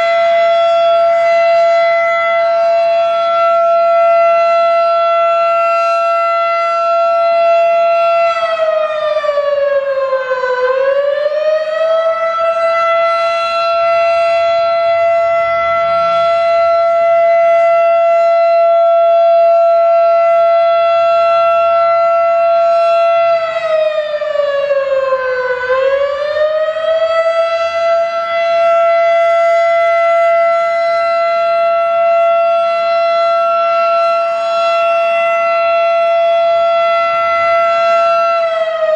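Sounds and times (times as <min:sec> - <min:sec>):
fire siren high tone: 0:00.0 - 0:38.9.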